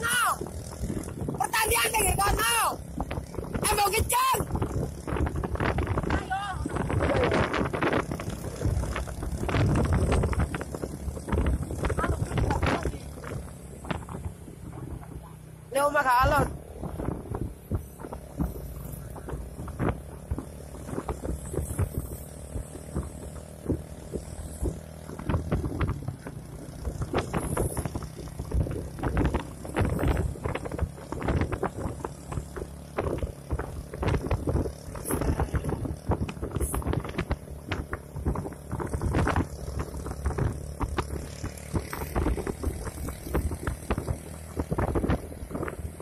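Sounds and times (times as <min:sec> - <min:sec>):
irregular knocking and buffeting: 0:00.0 - 0:46.0
vehicle engine hum: 0:00.0 - 0:46.0.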